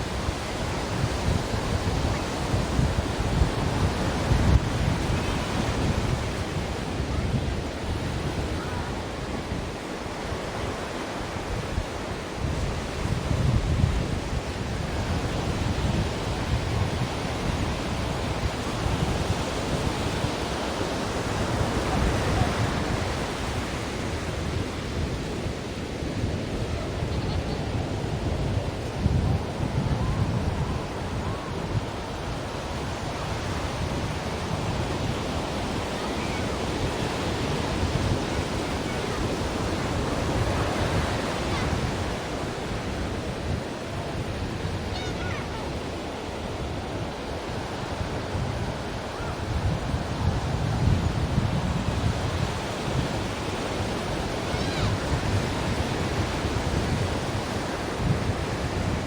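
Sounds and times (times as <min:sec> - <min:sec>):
waves breaking on shore: 0:00.0 - 0:59.0.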